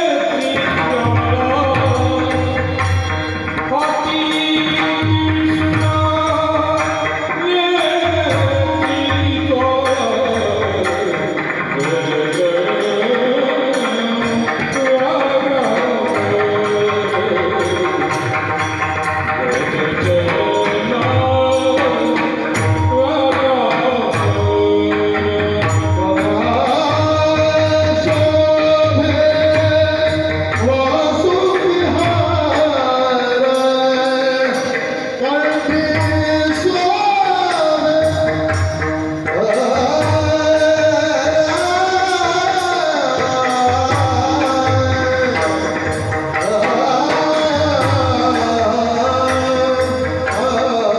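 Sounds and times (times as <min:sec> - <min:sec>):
man singing devotional melody: 0:00.0 - 0:50.9
small hand cymbals: 0:00.2 - 0:50.8.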